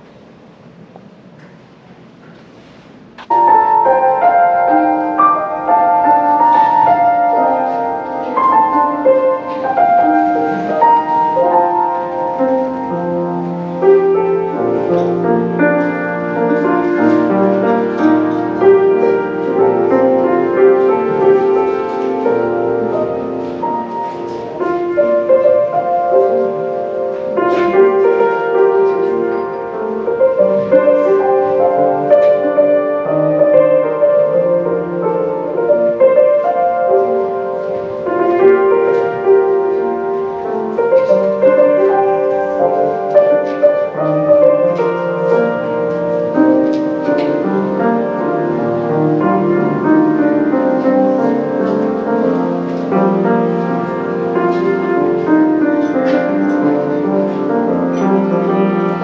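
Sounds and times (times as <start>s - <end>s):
solo piano playing: 3.1s - 59.0s.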